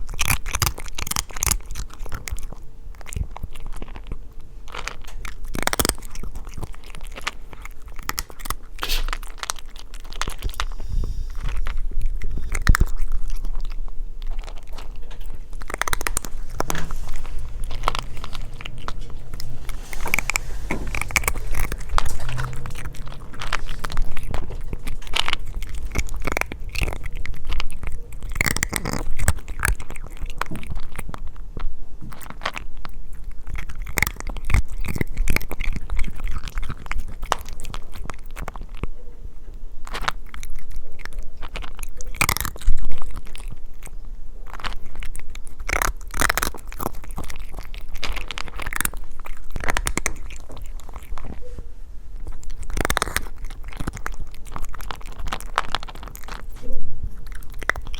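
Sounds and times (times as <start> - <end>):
cat crunching food: 0.0 - 51.4, 52.1 - 57.9.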